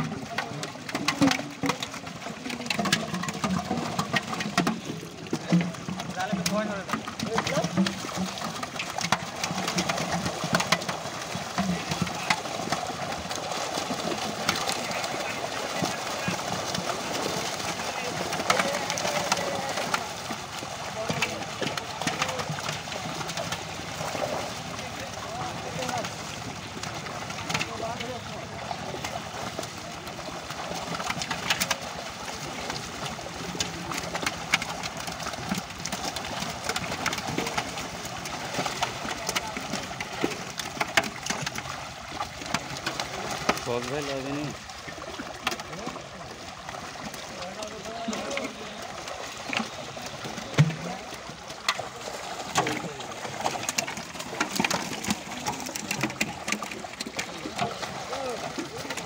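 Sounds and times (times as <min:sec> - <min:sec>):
fish splashing in net: 0:00.0 - 0:59.0.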